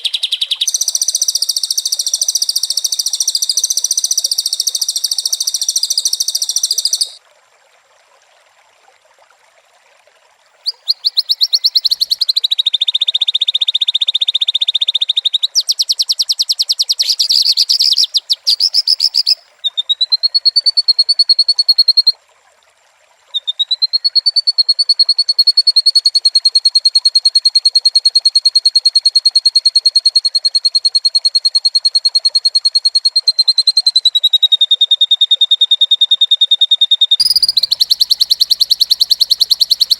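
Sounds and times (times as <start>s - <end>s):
bird singing high-pitched trills: 0.0s - 7.2s, 10.6s - 22.2s, 23.3s - 39.9s.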